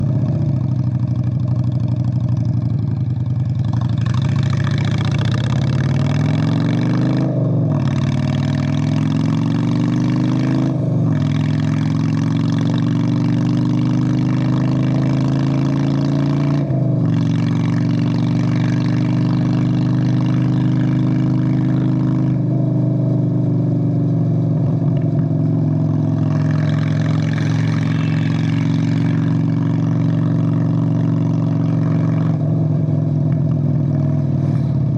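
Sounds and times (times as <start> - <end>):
motorcycle exhaust pulling away: 0.0 - 34.9.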